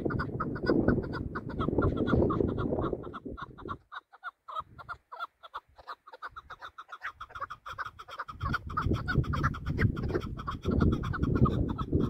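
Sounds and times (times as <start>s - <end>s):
partridge clucking calls: 0.0s - 12.0s.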